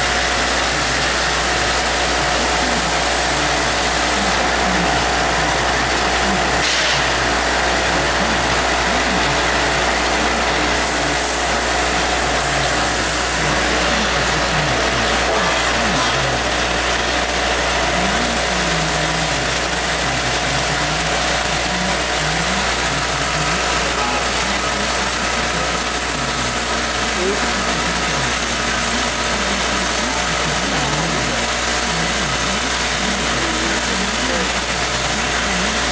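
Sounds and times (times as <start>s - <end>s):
bowl feeder drive humming: 0.0s - 35.9s.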